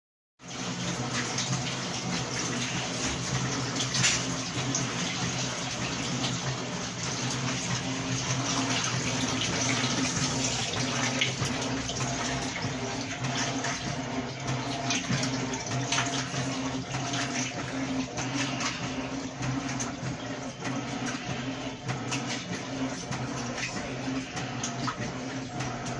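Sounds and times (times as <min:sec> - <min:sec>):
washing machine low hum: 0:00.4 - 0:25.9
water splashing in washing machine: 0:00.4 - 0:25.9.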